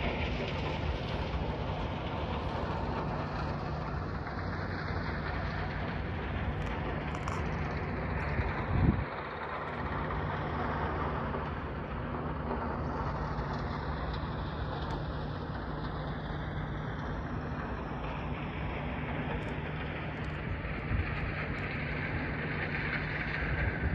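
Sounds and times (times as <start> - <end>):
low even drone: 0.0 - 23.9
rushing outdoor noise: 0.0 - 23.9.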